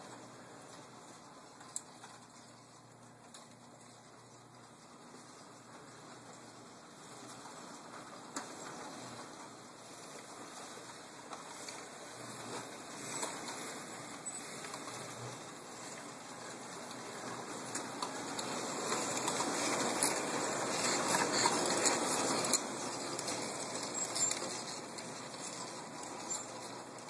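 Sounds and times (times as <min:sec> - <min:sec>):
model train rolling on track: 0:00.0 - 0:27.0
wheels clicking on rails: 0:00.0 - 0:27.0.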